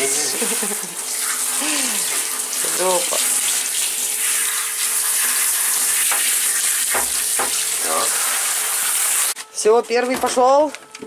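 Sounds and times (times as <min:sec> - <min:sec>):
shower spray hissing: 0:00.0 - 0:09.4.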